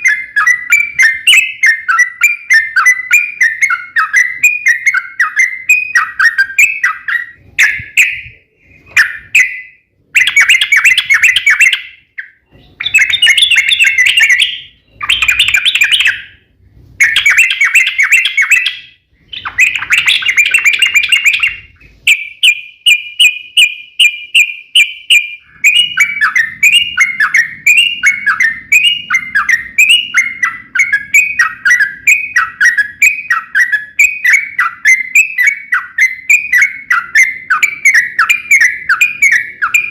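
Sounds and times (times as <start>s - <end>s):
bird singing chattering song: 0.0s - 39.9s
repeated down-slurred whistled notes: 0.0s - 39.9s.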